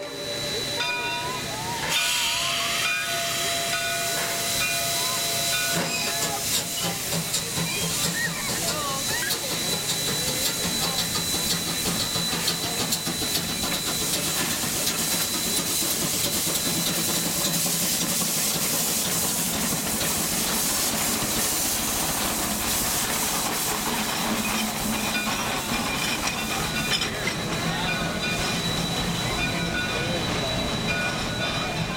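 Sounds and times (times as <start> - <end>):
steam locomotive hissing: 0.0 - 31.9.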